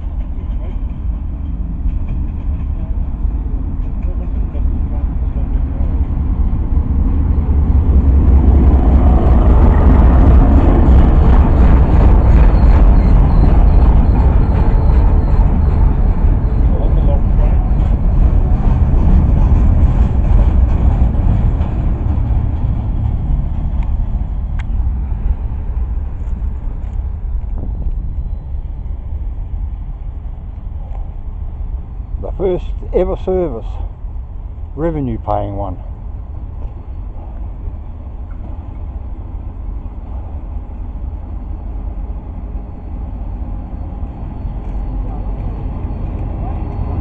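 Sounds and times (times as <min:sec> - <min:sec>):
train wagons rumbling past: 0:00.0 - 0:47.0.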